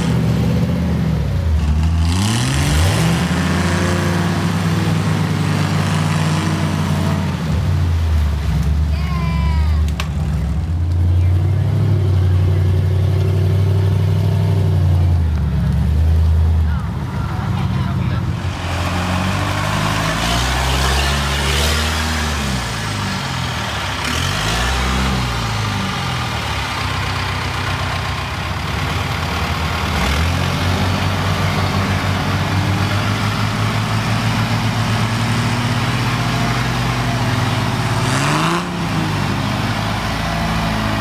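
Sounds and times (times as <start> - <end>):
engine drone under load: 0.0 - 41.0
engine revving: 0.0 - 41.0.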